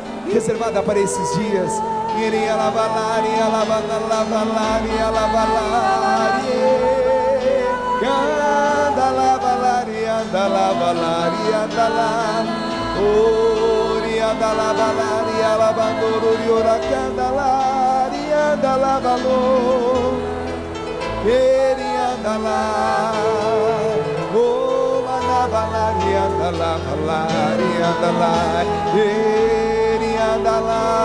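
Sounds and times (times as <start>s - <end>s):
congregation singing: 0.0s - 31.0s
sustained backing chords: 0.0s - 31.0s.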